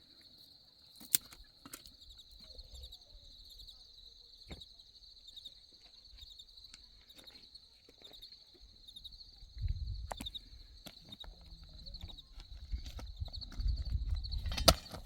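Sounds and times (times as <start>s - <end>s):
insects chirping in a pulsing trill: 0.0s - 15.0s.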